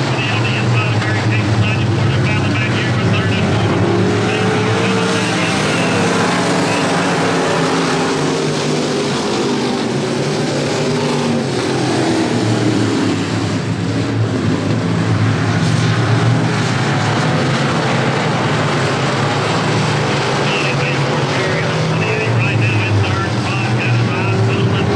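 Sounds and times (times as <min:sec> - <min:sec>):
race car engines droning: 0:00.0 - 0:24.9.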